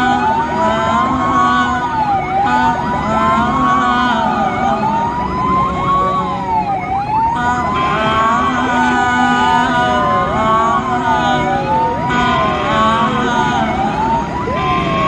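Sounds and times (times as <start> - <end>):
ambulance siren wailing: 0.0 - 15.0
road noise: 0.0 - 15.0
second siren sweeping faster: 0.0 - 15.0.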